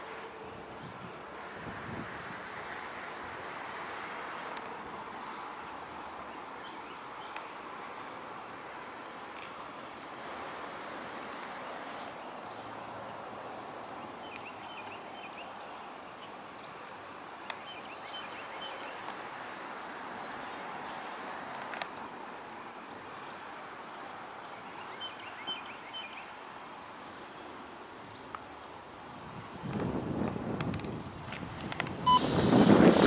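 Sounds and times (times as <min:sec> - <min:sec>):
background hiss: 0:00.0 - 0:33.0
birds chirping: 0:00.4 - 0:19.2, 0:20.0 - 0:31.0.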